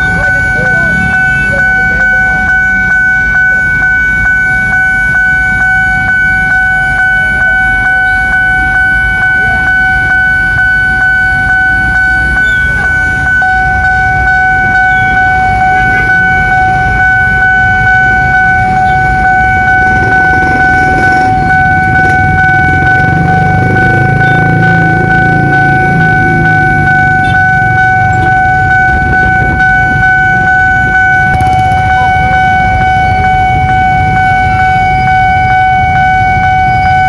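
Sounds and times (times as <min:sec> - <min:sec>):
level crossing alarm ringing: 0:00.0 - 0:37.0
road traffic rumbling: 0:00.0 - 0:37.0.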